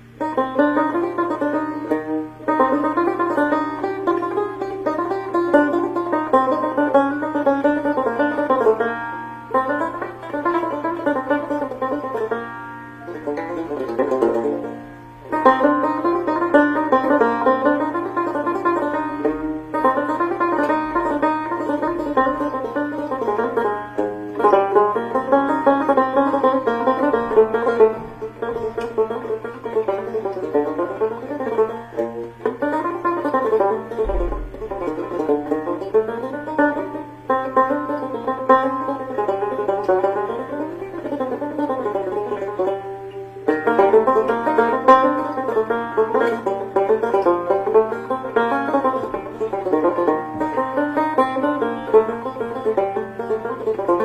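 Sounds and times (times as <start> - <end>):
plucked string instrument music: 0.0 - 54.0.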